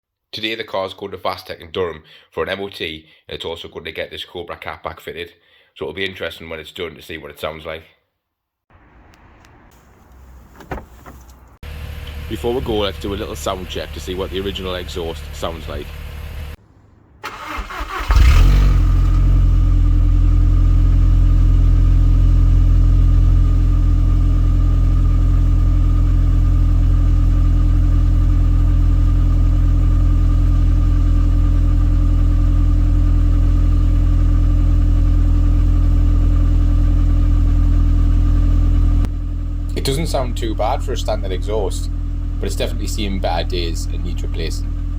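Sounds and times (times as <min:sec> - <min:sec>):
car engine cranking and idling: 0:08.7 - 0:44.9.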